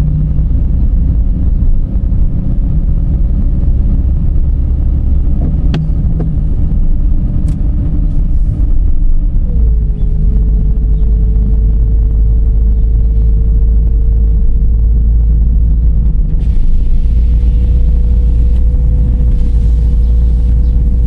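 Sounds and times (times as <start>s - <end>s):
car road rumble with whine: 0.0s - 21.0s.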